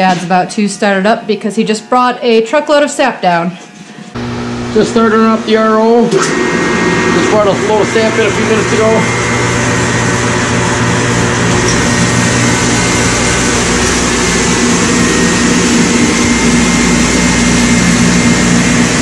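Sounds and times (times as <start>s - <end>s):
reverse osmosis machine humming: 0.0s - 19.0s.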